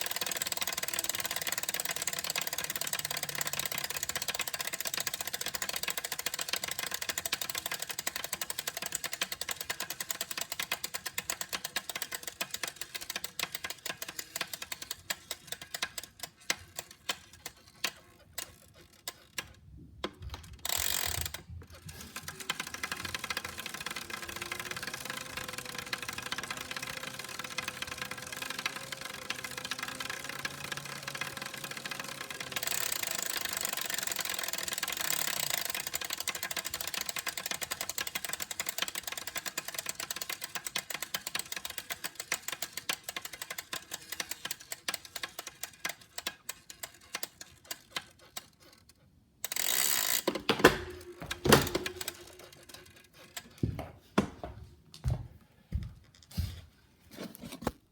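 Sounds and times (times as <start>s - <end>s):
bike trainer rattling tick: 0.0s - 54.3s.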